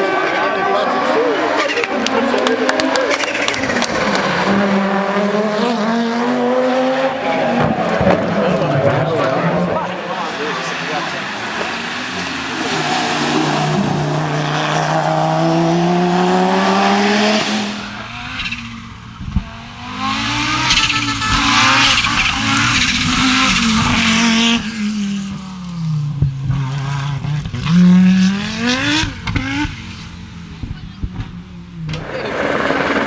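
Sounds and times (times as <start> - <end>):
rally car engine revving: 0.0 - 33.0
tyres skidding: 0.0 - 33.0.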